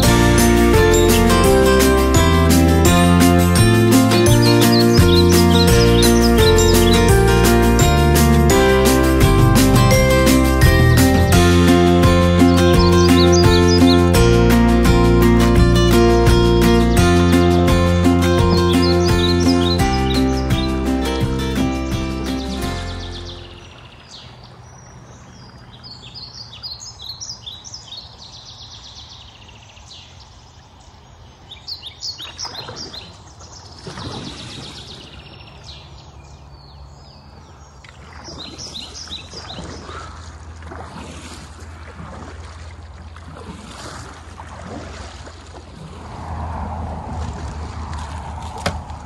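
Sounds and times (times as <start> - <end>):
songbirds chirping: 0.0 - 8.5, 9.4 - 41.0
boat moving through water: 0.0 - 49.0.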